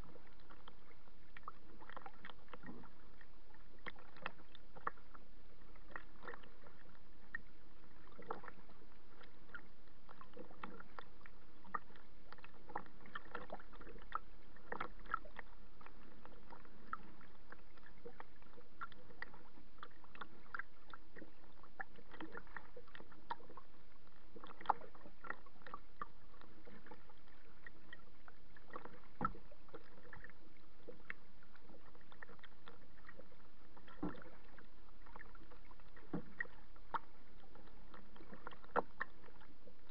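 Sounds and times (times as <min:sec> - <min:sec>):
water lapping against a kayak: 0:00.0 - 0:39.9.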